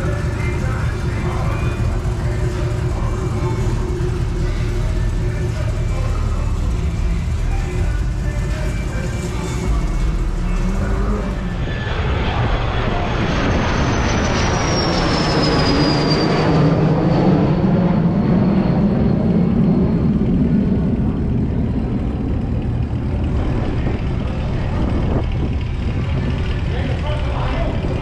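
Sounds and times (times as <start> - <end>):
car engine running: 0.0 - 15.2, 16.7 - 28.0
high engine whine: 0.0 - 28.0.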